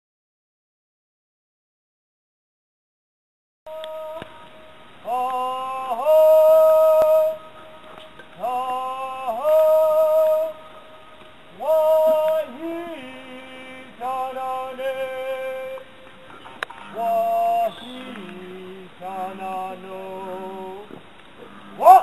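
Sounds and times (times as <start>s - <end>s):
drawn-out sung chant calls: 3.7s - 22.0s.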